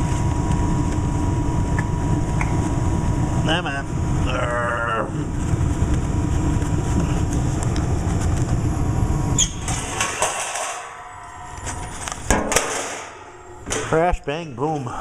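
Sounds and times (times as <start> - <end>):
furnace blower rumbling: 0.0 - 15.0.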